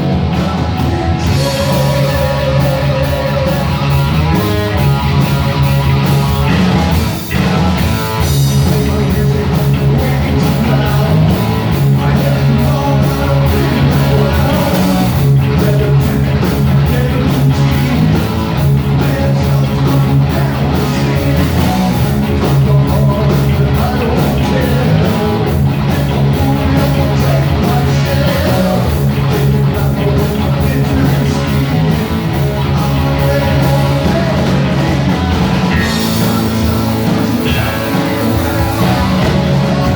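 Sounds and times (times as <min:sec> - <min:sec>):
bass guitar: 0:00.0 - 0:39.9
distorted electric guitars: 0:00.0 - 0:39.9
driving drum beat: 0:00.0 - 0:39.9.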